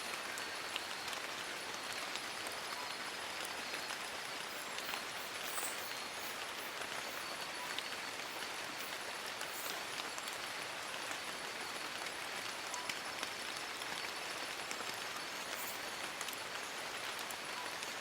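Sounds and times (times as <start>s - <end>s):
rain on leaves: 0.0s - 18.0s.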